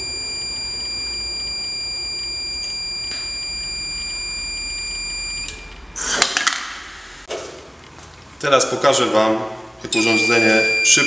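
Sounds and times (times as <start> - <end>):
induction heater high-pitched whine: 0.0 - 6.3, 8.4 - 11.0.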